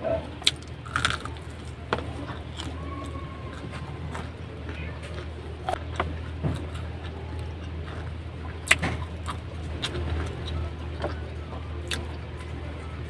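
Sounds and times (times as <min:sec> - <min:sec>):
crunchy chewing: 0:00.1 - 0:13.0.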